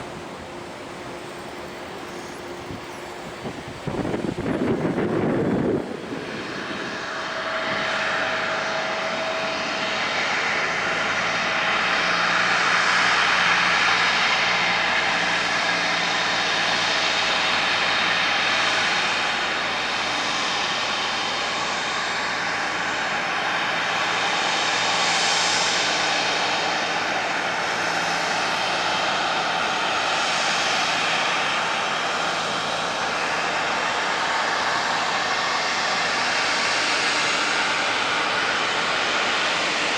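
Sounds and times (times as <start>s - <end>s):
jet engines rushing: 0.0s - 39.9s.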